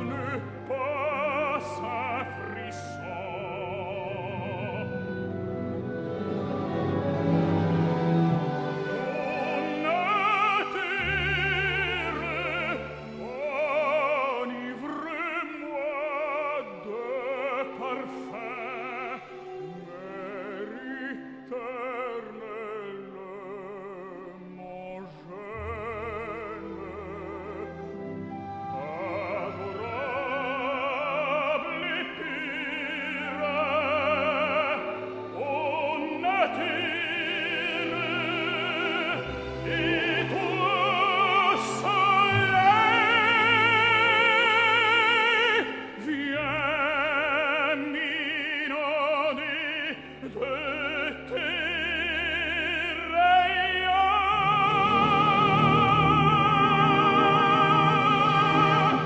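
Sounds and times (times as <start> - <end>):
operatic tenor singing: 0.0 - 59.0
orchestra playing: 0.0 - 59.0.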